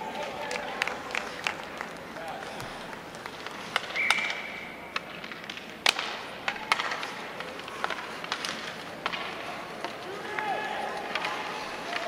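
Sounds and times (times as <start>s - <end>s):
hockey sticks and puck clacking: 0.0s - 12.0s
skates scraping ice: 0.0s - 12.0s.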